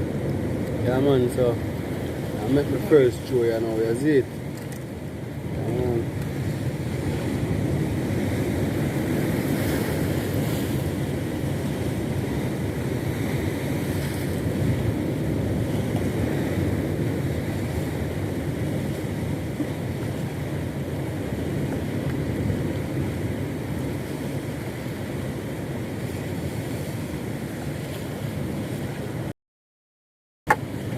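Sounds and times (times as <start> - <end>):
sea water rushing: 0.0 - 29.3, 30.5 - 30.9
wind noise on microphone: 0.0 - 29.3.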